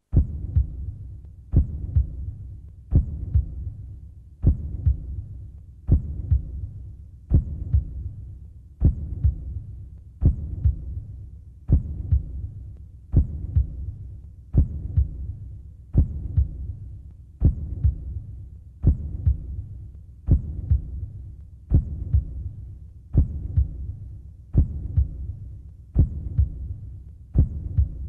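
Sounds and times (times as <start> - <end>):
heavy heartbeat: 0.1 - 28.0.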